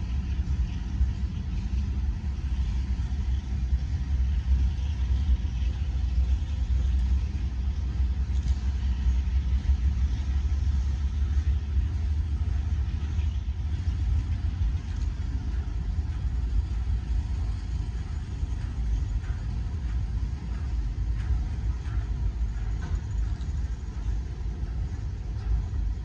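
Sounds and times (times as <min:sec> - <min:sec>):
train cars rolling past: 0:00.0 - 0:26.0.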